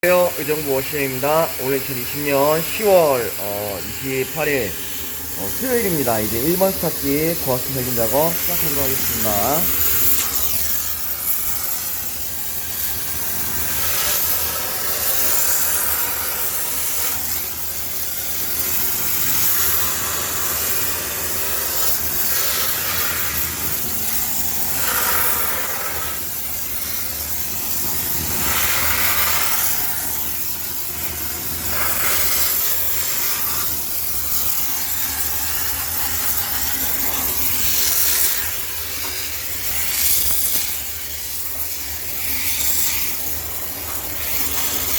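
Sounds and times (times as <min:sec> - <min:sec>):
steam cleaner hissing: 0:00.0 - 0:44.9.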